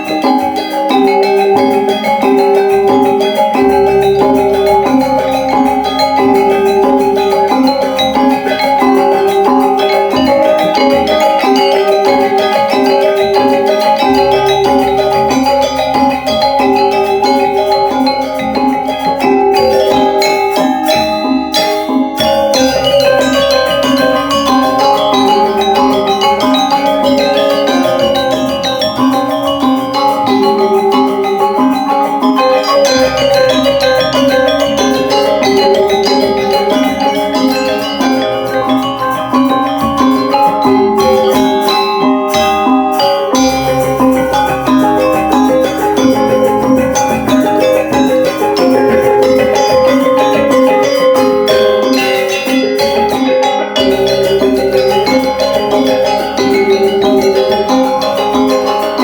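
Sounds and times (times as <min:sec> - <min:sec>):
gamelan music: 0:00.0 - 0:59.0.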